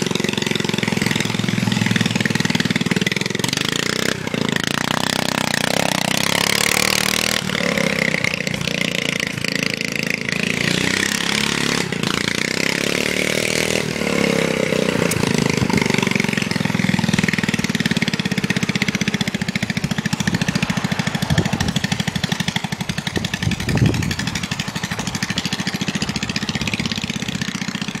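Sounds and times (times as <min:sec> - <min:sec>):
lawn mower engine revving: 0:00.0 - 0:28.0.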